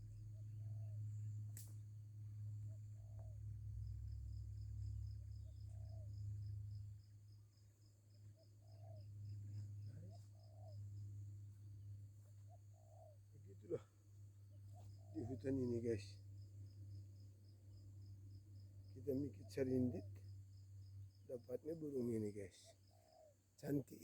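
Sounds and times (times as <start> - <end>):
insect pulsed call: 0.0 - 23.5.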